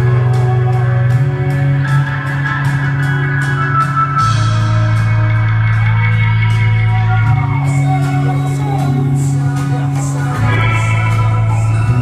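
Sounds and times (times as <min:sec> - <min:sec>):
bass notes: 0:00.0 - 0:12.0
electric guitar: 0:00.0 - 0:12.0
rock band playing live: 0:00.0 - 0:12.0.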